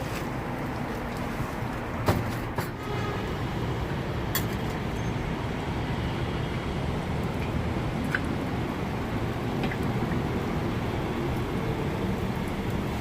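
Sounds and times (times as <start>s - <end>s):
low rumble of street noise: 0.0s - 13.0s.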